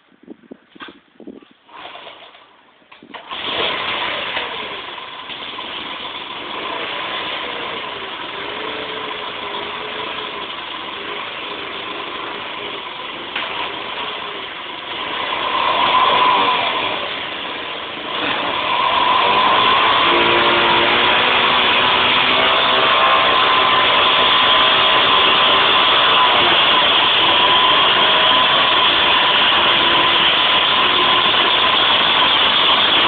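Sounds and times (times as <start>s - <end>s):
motorcycle engine starting and revving: 1.6s - 33.0s.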